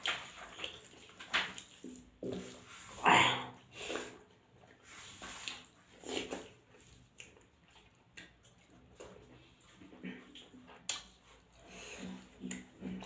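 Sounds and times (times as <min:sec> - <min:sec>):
chewing and lip smacking: 0:00.0 - 0:02.6, 0:03.9 - 0:13.0.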